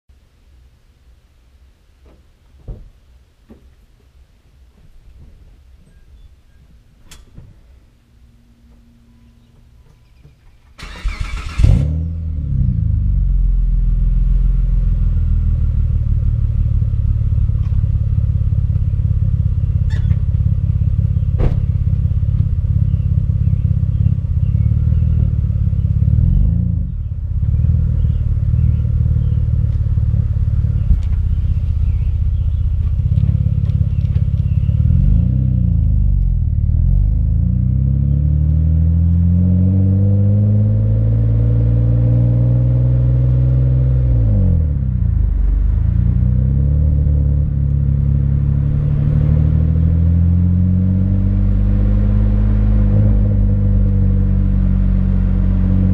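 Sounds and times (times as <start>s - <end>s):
car engine starting and idling: 6.9s - 55.9s.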